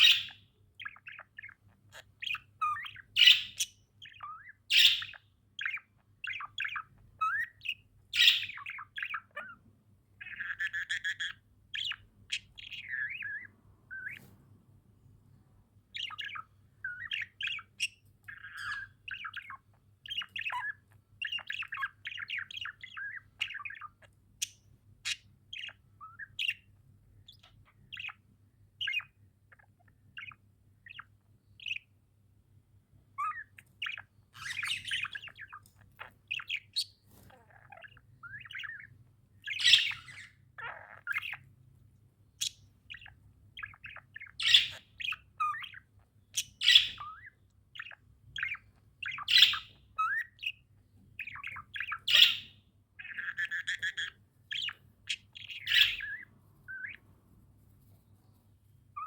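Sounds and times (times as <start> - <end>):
budgerigars chirping: 0.0 - 14.4, 15.8 - 32.0, 33.0 - 57.1, 57.8 - 59.0.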